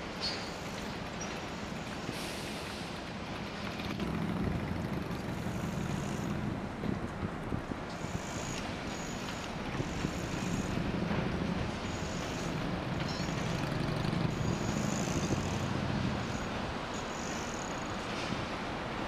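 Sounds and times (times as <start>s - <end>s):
traffic passing: 0.0s - 19.0s.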